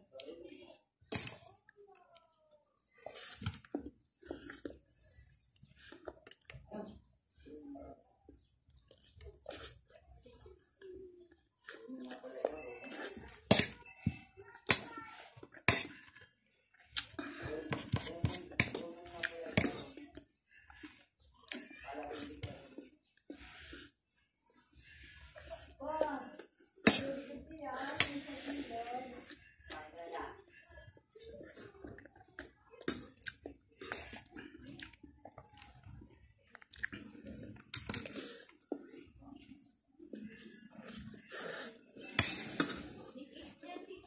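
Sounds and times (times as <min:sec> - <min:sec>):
chewing noises: 0:01.0 - 0:07.0, 0:08.3 - 0:23.9, 0:27.9 - 0:43.2.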